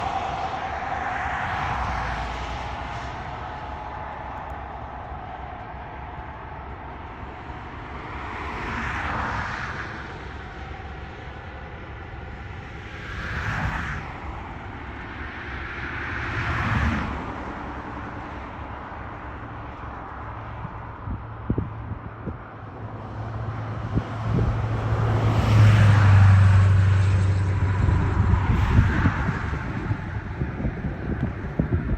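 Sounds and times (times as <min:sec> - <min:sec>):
steady engine hum: 0:00.0 - 0:31.9
vehicles passing by: 0:00.0 - 0:31.9.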